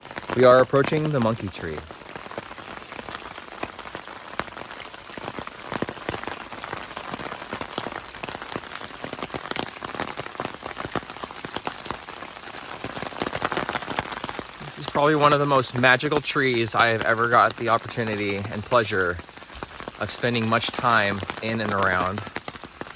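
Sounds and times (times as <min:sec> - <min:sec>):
raindrops ticking: 0:00.0 - 0:22.9
steady rain falling: 0:00.0 - 0:22.9.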